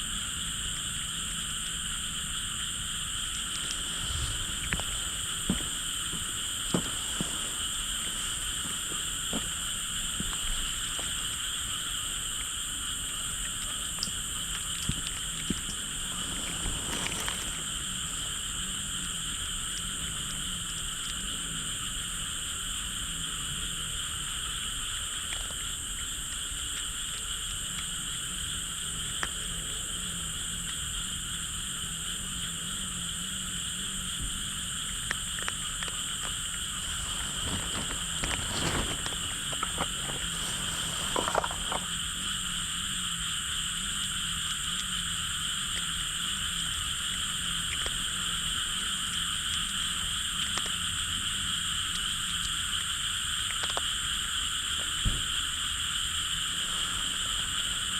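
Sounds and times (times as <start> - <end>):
chorus of frogs calling: 0.0 - 57.9.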